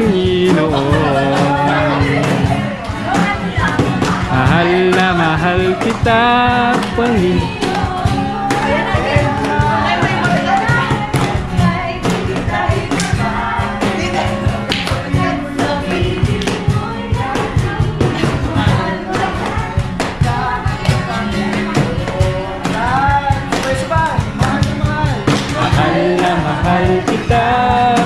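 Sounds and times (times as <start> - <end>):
group singing worship song: 0.0 - 28.0
people clapping: 0.0 - 28.0
steady beat: 0.0 - 28.0.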